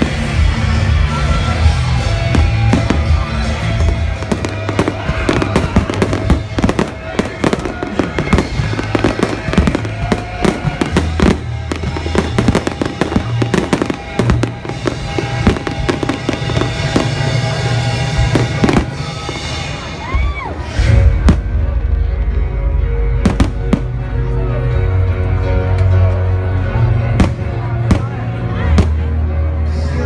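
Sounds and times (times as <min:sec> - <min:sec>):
firework bangs and crackles: 0:00.0 - 0:24.3, 0:26.4 - 0:29.7
music playing: 0:00.0 - 0:30.0.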